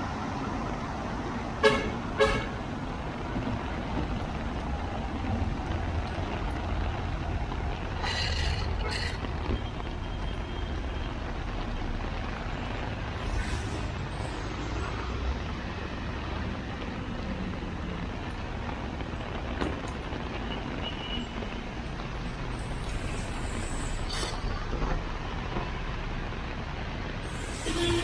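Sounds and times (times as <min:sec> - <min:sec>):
rain downpour: 0:00.0 - 0:28.0
traffic engines rumbling: 0:00.0 - 0:28.0
wet tyres on road: 0:00.0 - 0:28.0.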